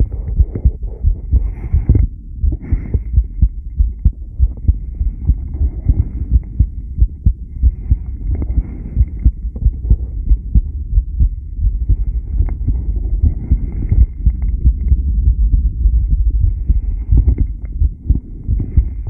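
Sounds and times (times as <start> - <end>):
heartbeat: 0.0 - 19.0.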